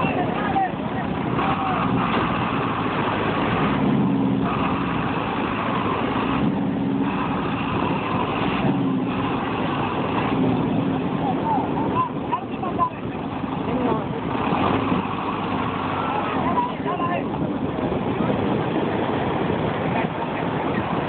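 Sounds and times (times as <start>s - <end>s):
diesel tractor engine straining: 0.0s - 21.0s.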